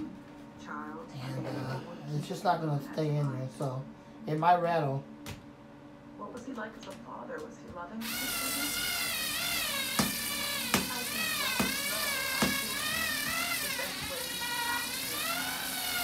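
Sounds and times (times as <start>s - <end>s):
box fan running: 0.0s - 16.0s.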